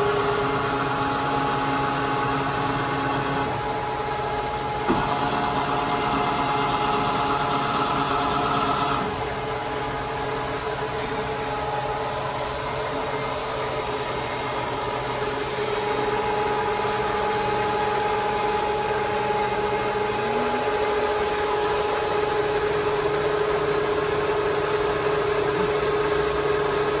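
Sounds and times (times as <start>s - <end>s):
milling machine motor whine: 0.0s - 27.0s.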